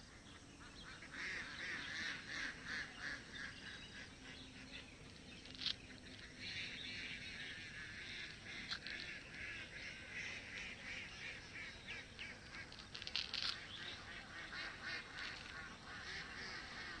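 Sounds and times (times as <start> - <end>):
ducks quacking: 0.2 - 17.0.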